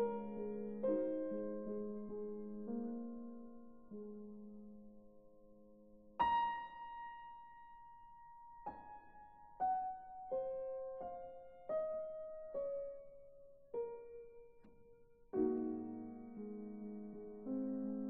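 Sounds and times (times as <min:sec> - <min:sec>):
slow sad solo piano: 0:00.0 - 0:18.0.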